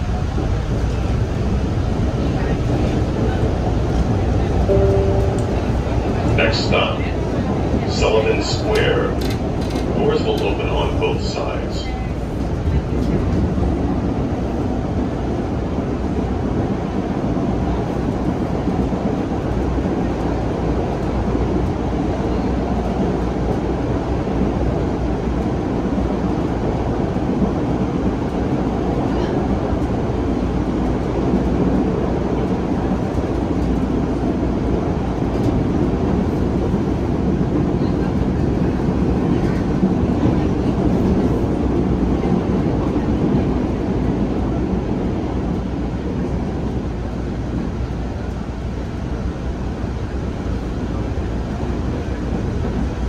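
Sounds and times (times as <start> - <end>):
subway car wheels rumbling on rails: 0.0 - 53.0.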